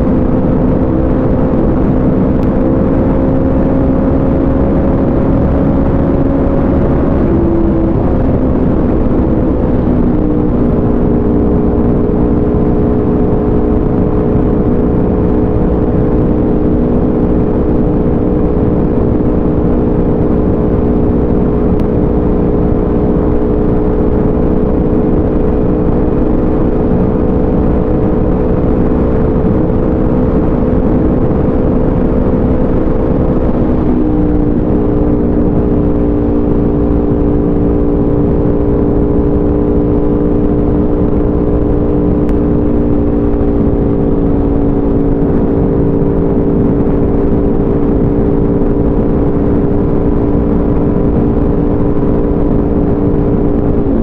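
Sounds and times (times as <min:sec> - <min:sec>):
motorcycle engine cruising: 0:00.0 - 0:54.0
wind rush: 0:00.0 - 0:54.0.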